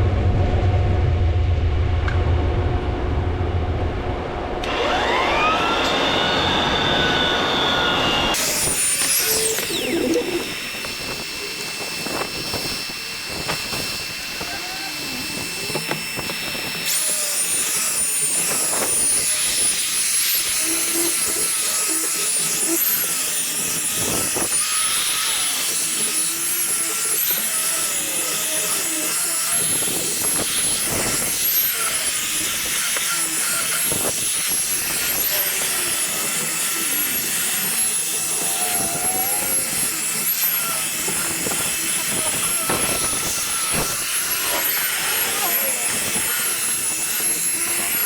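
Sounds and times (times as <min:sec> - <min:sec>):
power tool hissing and whining: 0:04.6 - 0:48.0.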